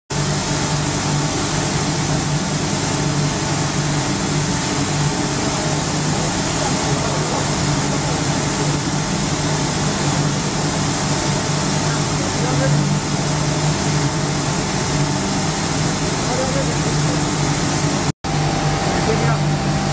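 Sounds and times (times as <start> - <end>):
spray system hissing: 0.1 - 18.1
low motor hum: 0.1 - 19.9.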